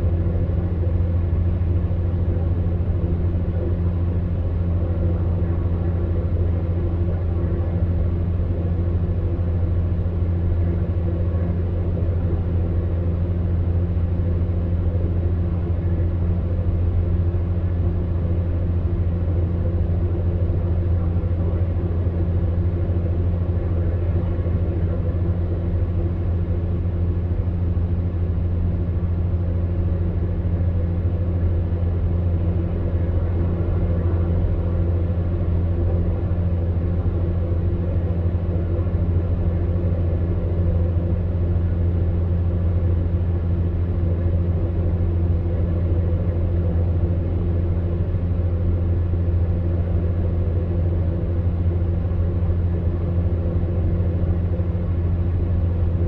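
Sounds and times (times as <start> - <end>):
fan heater humming: 0.0 - 56.0.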